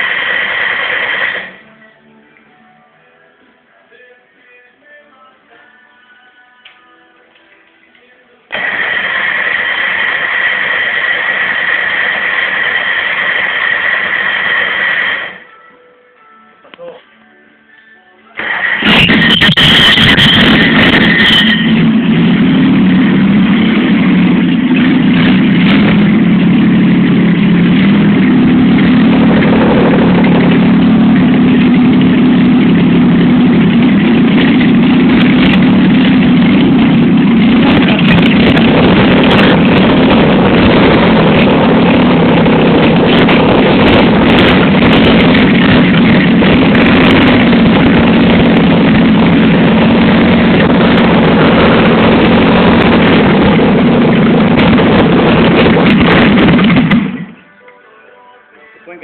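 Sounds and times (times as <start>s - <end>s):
car engine idling: 0.0s - 1.7s, 8.5s - 15.5s, 18.4s - 57.5s.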